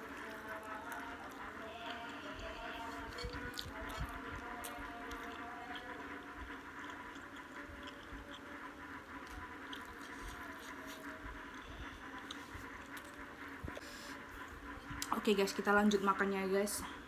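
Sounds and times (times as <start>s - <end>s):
chewing noodles: 0.0s - 15.1s
faint steady hum: 0.0s - 17.0s.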